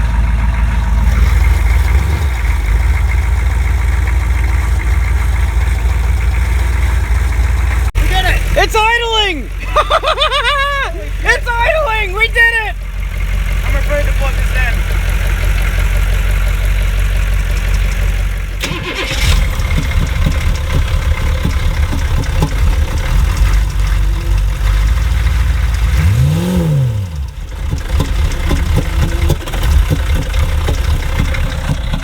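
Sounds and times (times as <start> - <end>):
engine revving: 0.0 - 32.0
van engine idling roughly: 0.0 - 32.0.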